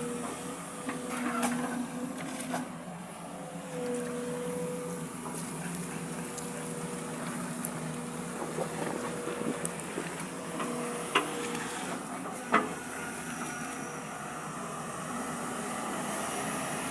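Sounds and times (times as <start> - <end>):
excavator engine running: 0.0 - 16.9.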